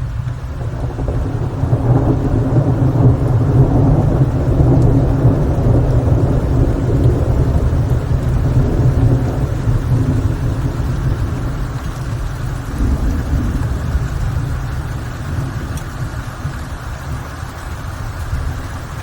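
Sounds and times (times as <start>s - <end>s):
rain: 0.0s - 19.0s
rolling thunder rumble: 0.0s - 19.0s.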